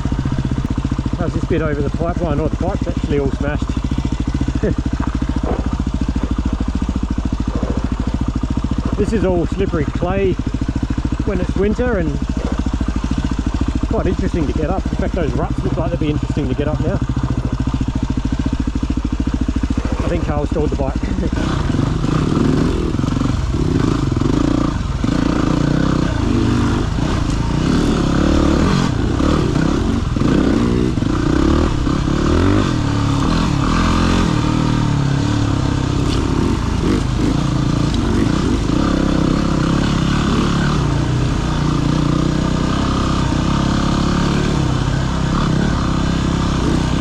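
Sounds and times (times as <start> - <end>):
dirt bike engine running: 0.0 - 47.0.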